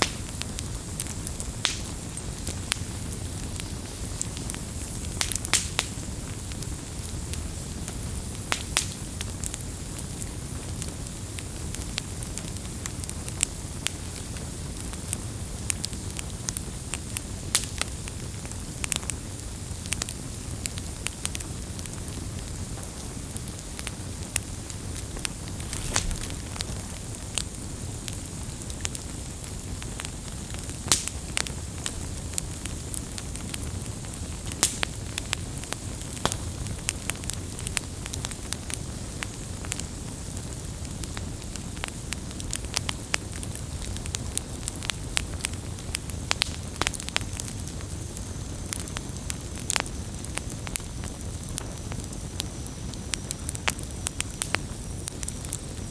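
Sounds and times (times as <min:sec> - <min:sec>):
campfire flame rumble: 0:00.0 - 0:55.9
fire crackling and popping: 0:00.0 - 0:55.9.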